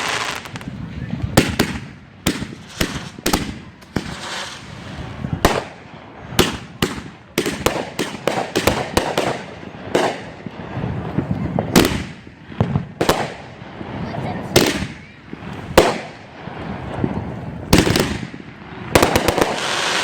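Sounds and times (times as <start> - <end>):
fireworks bangs: 0.0 - 20.0
hissing crackling fireworks: 0.0 - 20.0.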